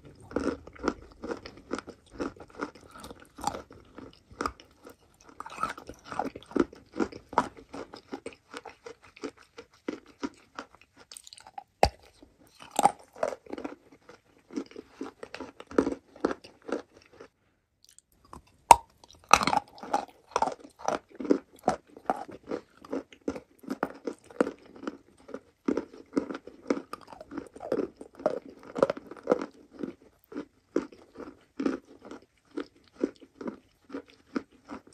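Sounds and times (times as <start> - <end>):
crunching and chewing chalk: 0.0 - 34.9.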